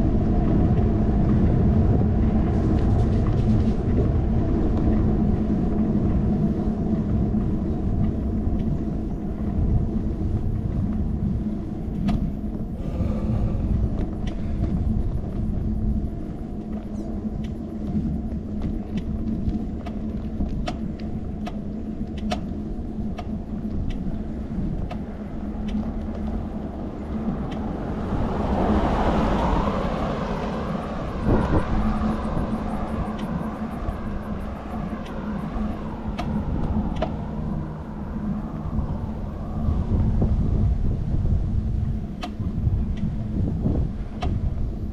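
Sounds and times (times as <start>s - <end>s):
low hum: 0.0s - 44.9s
wind and road rumble on bicycle: 0.0s - 44.9s.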